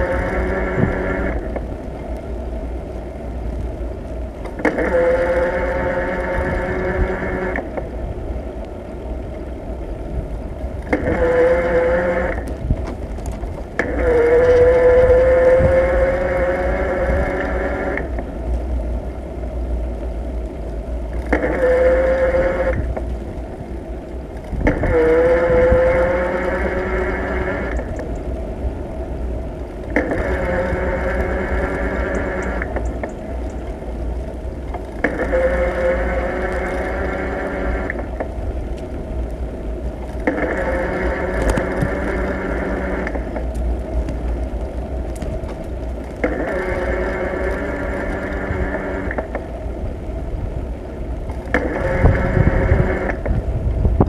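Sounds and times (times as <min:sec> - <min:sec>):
multi-tone whine: 0:00.0 - 0:54.0
road rumble: 0:00.0 - 0:54.0
wind noise: 0:00.0 - 0:54.0.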